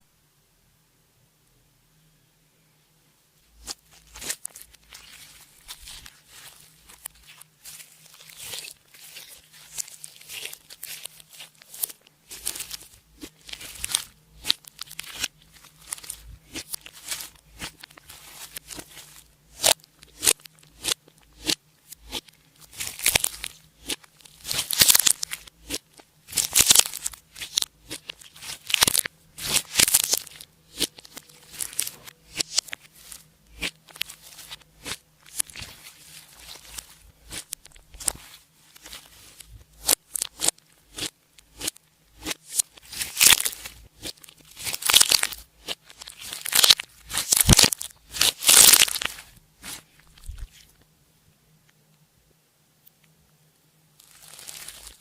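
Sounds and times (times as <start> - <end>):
slime squishing and stretching: 3.6 - 50.8, 54.0 - 55.0.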